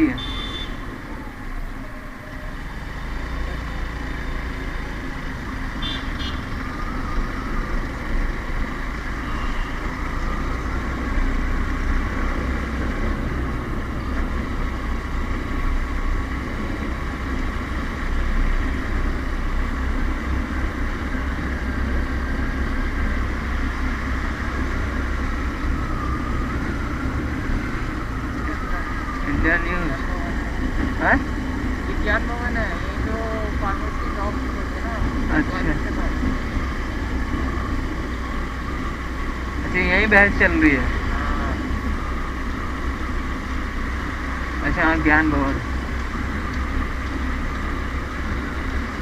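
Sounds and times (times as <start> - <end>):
road and traffic noise: 0.0 - 49.0.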